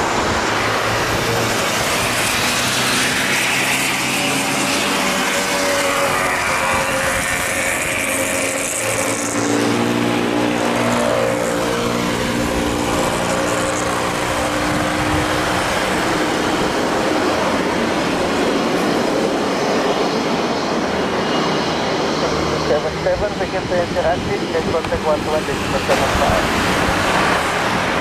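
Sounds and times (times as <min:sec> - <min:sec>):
jet engines whining: 0:00.0 - 0:28.0
steady rushing noise: 0:00.0 - 0:28.0.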